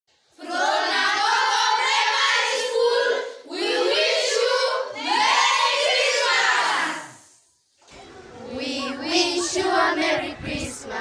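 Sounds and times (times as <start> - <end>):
children singing in unison: 0.3 - 11.0.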